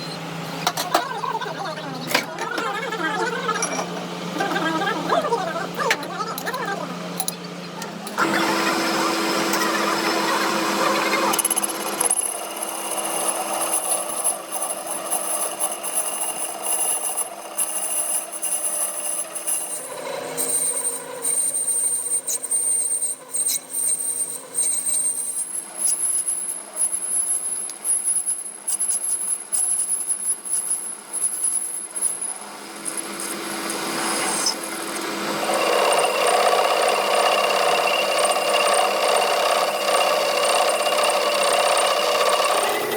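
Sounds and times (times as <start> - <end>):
power tools whining on steel: 5.7 - 42.9.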